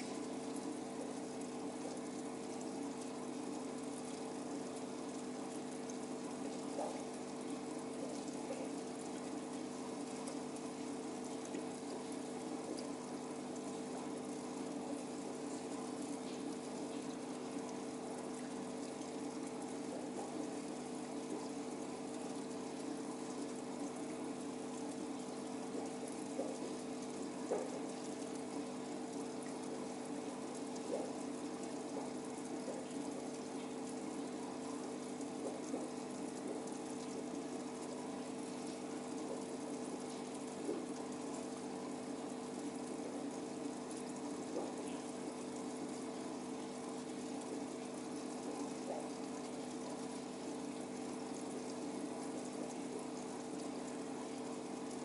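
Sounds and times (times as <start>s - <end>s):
aquarium pump humming: 0.0s - 55.0s
water bubbling and splashing: 0.0s - 55.0s.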